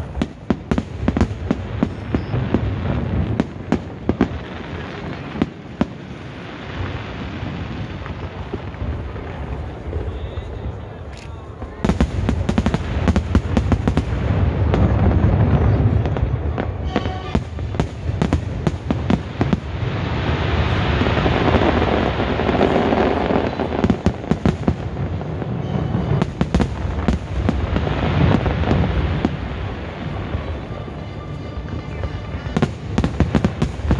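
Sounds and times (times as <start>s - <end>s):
fireworks bangs: 0.0s - 33.9s
fireworks crackling: 0.0s - 33.9s.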